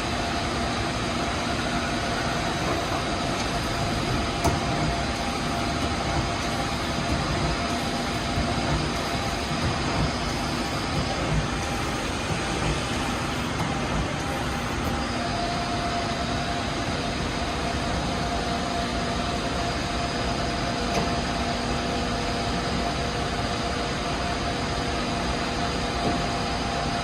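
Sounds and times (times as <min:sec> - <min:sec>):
lathe humming and whining: 0:00.0 - 0:27.0.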